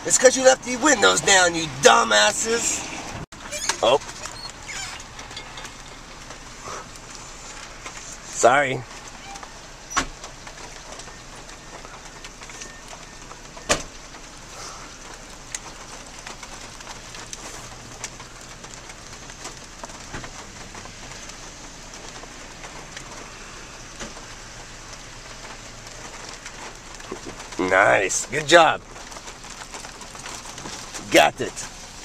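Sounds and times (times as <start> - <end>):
rain falling on a car: 0.0 - 32.0.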